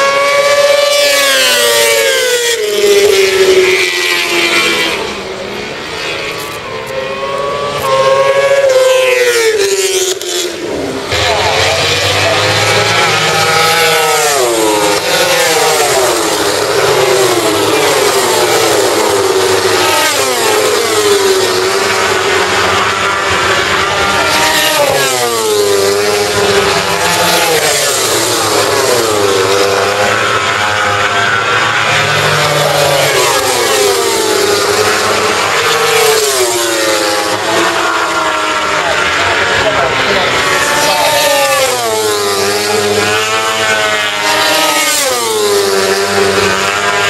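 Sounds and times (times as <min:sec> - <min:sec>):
racing motorcycles passing: 0:00.0 - 0:47.0.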